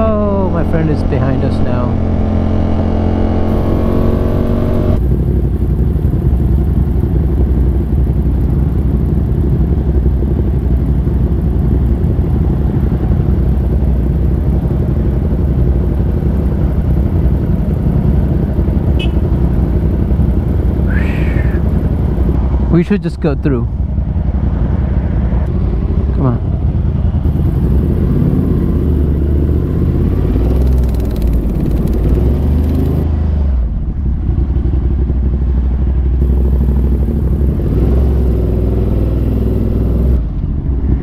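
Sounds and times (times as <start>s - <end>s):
motorcycle engine running: 0.0s - 22.7s, 23.7s - 41.0s
road rumble: 0.0s - 41.0s.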